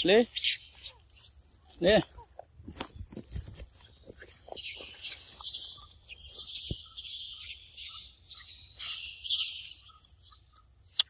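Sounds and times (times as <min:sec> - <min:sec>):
birds chirping: 0:00.0 - 0:11.0
insects buzzing: 0:00.0 - 0:11.0.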